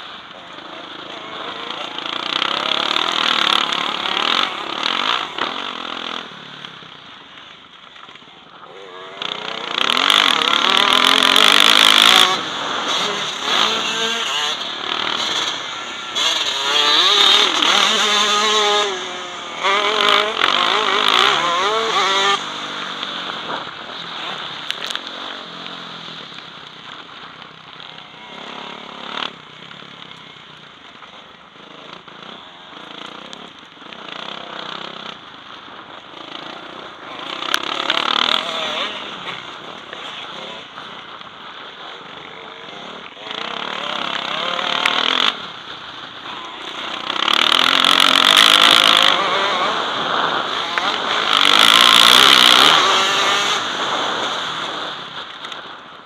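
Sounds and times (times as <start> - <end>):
motocross bike engine revving: 0.0 - 7.4, 8.5 - 56.0.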